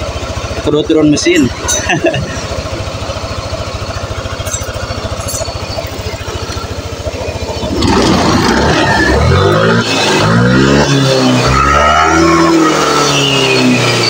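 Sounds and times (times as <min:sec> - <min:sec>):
scooter engine idling and revving: 0:00.0 - 0:14.0.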